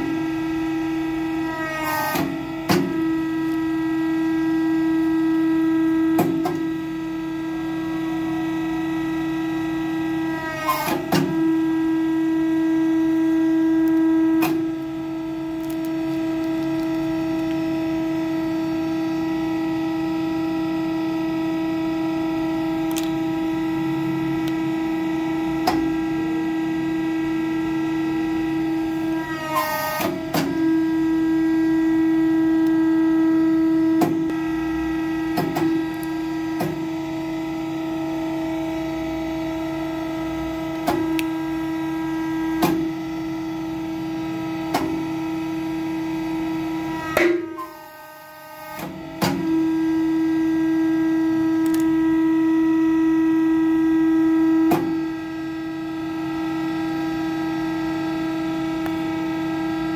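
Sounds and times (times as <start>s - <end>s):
hydraulic pump humming: 0.0s - 59.9s.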